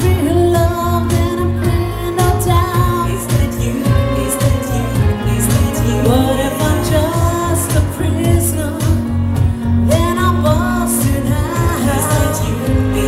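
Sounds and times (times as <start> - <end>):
amplified backing music: 0.0 - 13.0
woman singing into microphone: 0.0 - 13.0.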